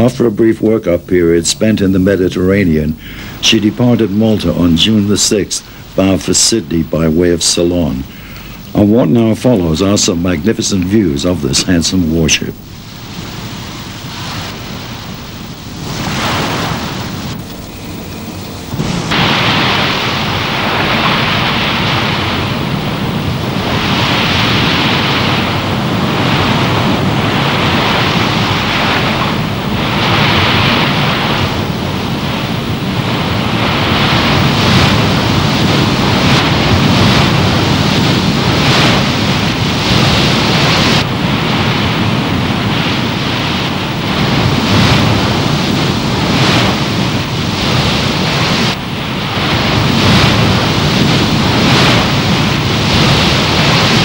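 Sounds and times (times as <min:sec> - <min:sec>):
sea wash: 0:00.0 - 0:54.0
wind rushing: 0:01.6 - 0:54.0.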